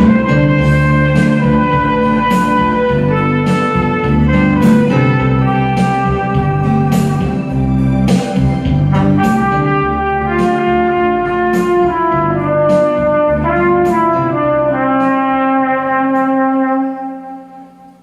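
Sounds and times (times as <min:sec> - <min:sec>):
backing track with a beat: 0:00.0 - 0:16.4
trumpet melody: 0:00.0 - 0:18.0.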